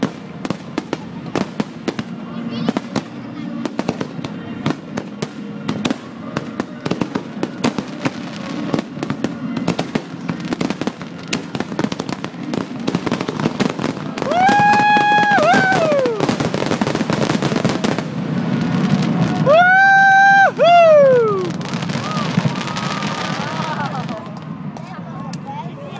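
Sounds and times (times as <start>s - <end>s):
fireworks crackling and popping: 0.0s - 25.9s.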